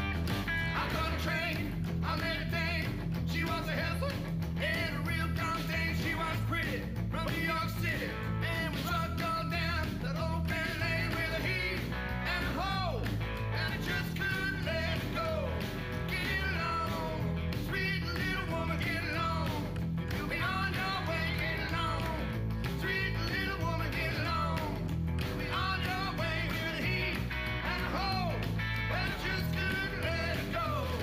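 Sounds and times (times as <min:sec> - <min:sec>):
rock band playing: 0:00.0 - 0:31.0
man singing lead: 0:00.6 - 0:31.0.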